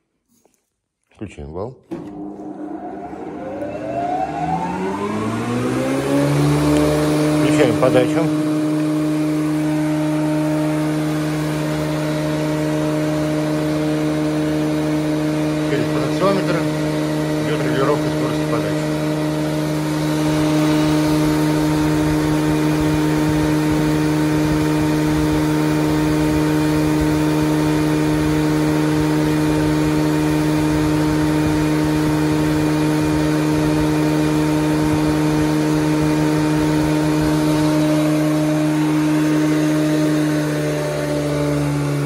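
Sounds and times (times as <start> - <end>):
thickness planer humming: 1.9 - 42.0.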